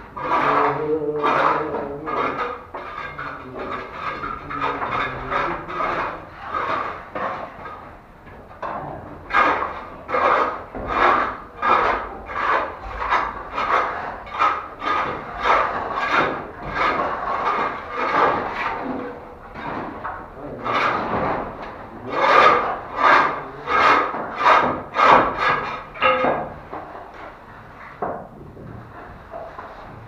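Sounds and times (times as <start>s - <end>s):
tool scraping wet plaster: 0.0s - 30.0s.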